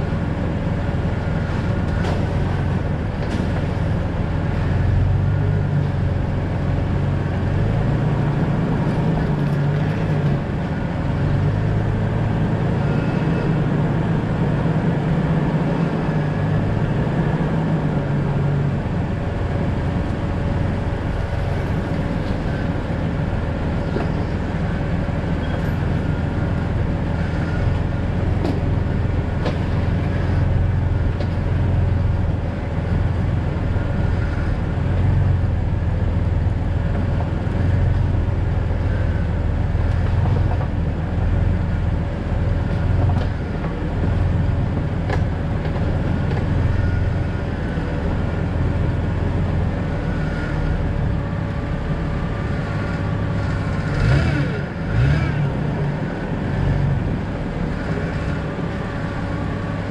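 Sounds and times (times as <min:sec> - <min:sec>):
car engine driving: 0:00.0 - 0:59.9
road noise: 0:00.0 - 0:59.9.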